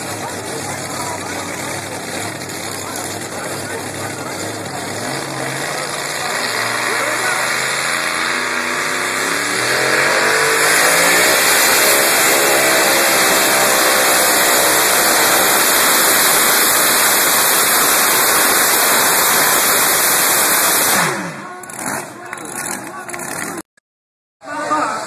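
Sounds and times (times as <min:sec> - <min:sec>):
tractor engine revving: 0:00.0 - 0:23.7.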